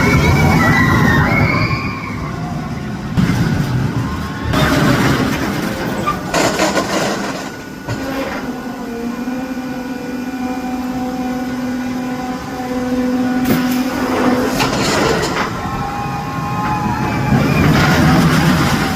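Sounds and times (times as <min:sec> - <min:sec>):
ride machinery humming: 0:00.0 - 0:18.9
roller coaster track rattle: 0:00.0 - 0:18.9.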